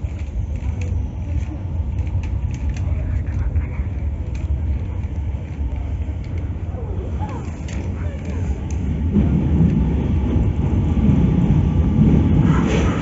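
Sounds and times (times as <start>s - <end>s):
distant voices: 0.0s - 13.0s
steady low rumble: 0.0s - 13.0s.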